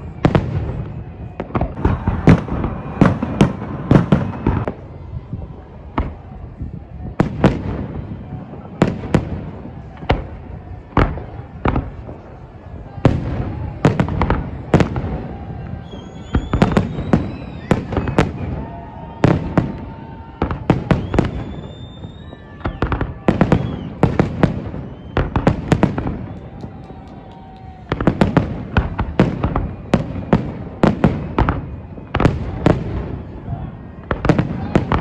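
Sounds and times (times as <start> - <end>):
fireworks bursting with sharp bangs: 0.0 - 5.0, 5.9 - 35.0.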